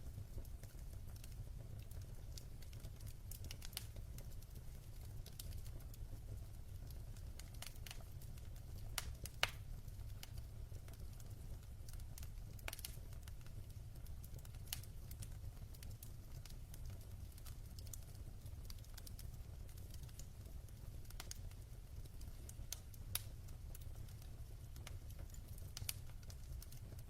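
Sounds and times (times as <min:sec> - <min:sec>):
logs crackling in a fireplace: 0:00.0 - 0:27.0.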